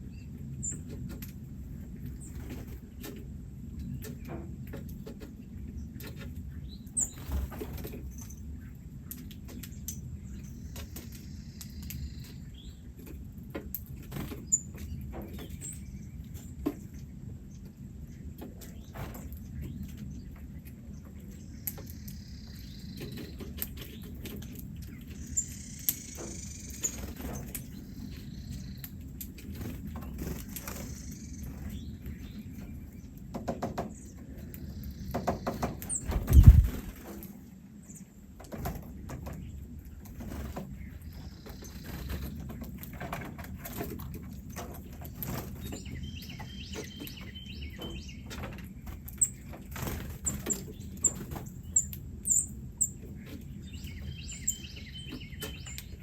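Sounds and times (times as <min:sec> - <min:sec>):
small birds chirping: 0:00.0 - 0:56.0
wings fluttering and rustling: 0:00.5 - 0:22.1, 0:22.8 - 0:56.0.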